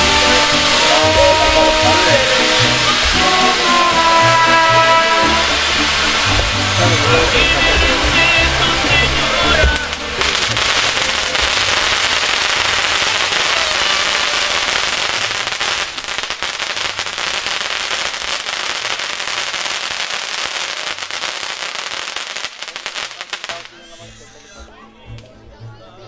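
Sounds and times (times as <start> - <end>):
fireworks fountain hissing and crackling: 0.0 - 25.4.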